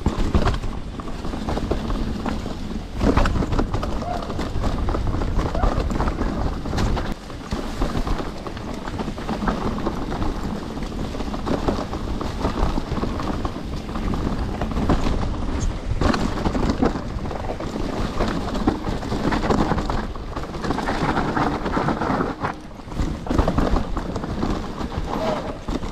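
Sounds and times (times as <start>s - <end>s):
bike rattling over bumps: 0.0s - 25.9s
tyre rumble: 0.0s - 25.9s
wind noise on microphone: 0.0s - 25.9s.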